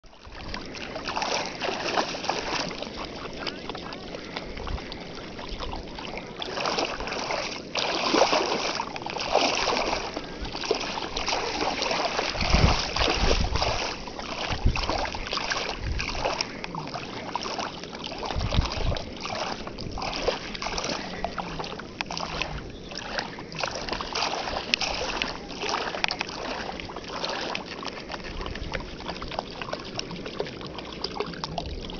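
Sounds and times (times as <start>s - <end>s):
dog paws splashing in water: 0.0s - 31.9s.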